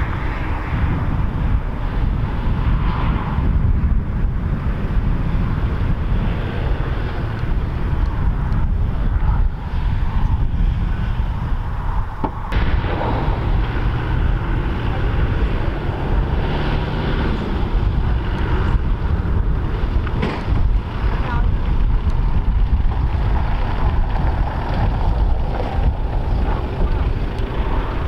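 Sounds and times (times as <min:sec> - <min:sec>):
diesel engine running: 0:00.0 - 0:28.0
wind buffeting microphone: 0:00.0 - 0:28.0.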